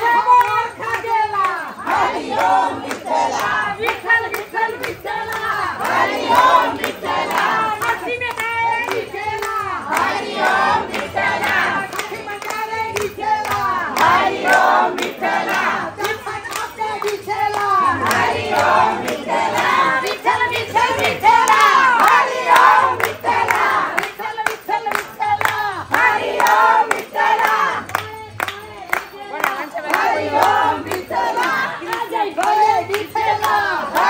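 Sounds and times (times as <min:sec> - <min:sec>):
group singing: 0:00.0 - 0:34.0
hands clapping: 0:00.0 - 0:34.0.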